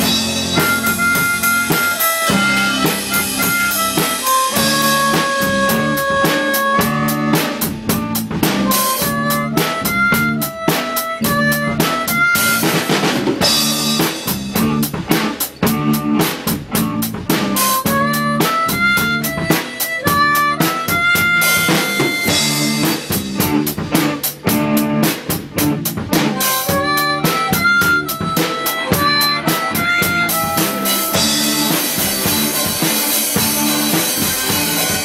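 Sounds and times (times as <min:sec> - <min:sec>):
drum kit beat: 0:00.0 - 0:35.0
harmonica melody: 0:00.0 - 0:35.0.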